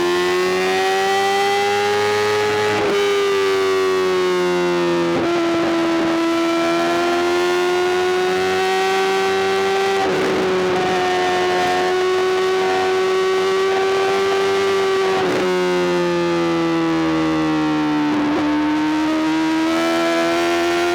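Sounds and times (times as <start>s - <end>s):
motorcycle engine at high revs: 0.0s - 20.9s.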